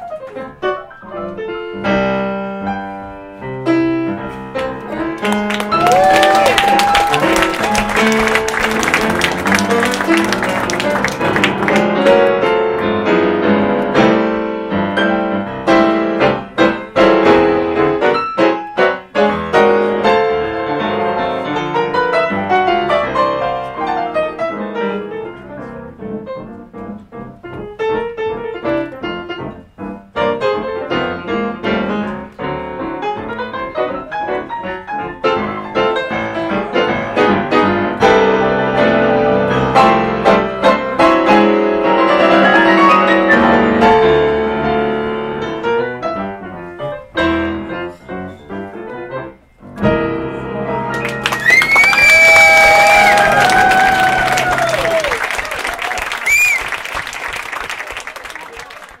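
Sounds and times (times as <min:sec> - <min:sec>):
jazz piano duet: 0:00.0 - 0:58.0.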